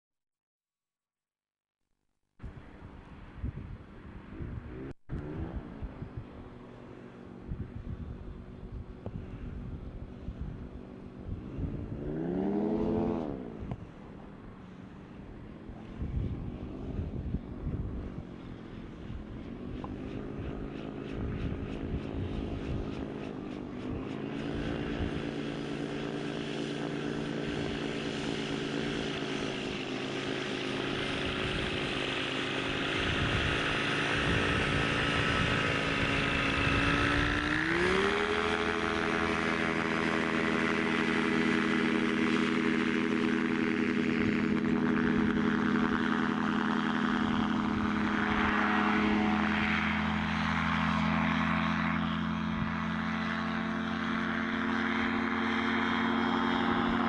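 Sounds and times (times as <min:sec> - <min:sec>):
gyrocopter engine and propeller: 0:02.4 - 0:57.0.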